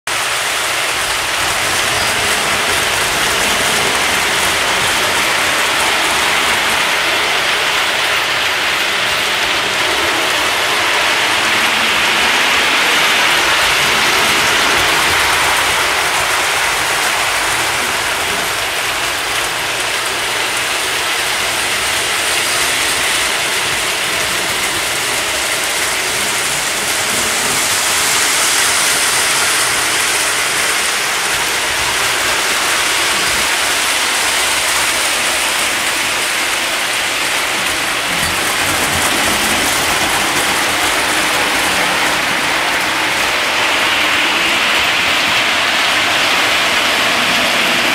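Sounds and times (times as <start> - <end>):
metal wheels rolling on rails: 0.1 - 47.9
model train motors whirring: 0.1 - 47.9.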